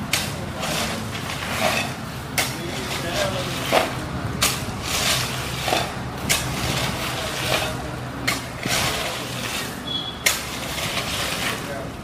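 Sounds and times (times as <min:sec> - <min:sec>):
gravel scraping: 0:00.0 - 0:12.0.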